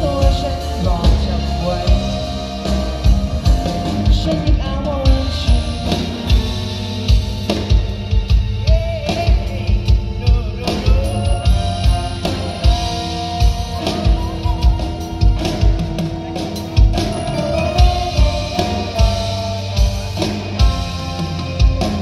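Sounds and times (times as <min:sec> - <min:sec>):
live pop-rock band: 0:00.0 - 0:22.0.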